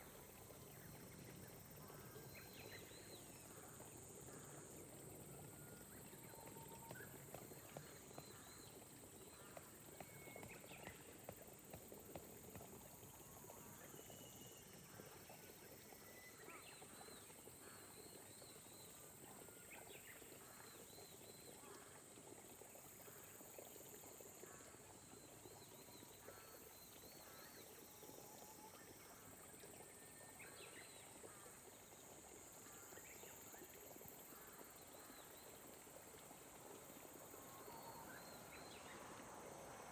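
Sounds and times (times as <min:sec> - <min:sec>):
frogs or birds chirping: 0:00.0 - 0:39.9
insect chorus: 0:00.0 - 0:39.9.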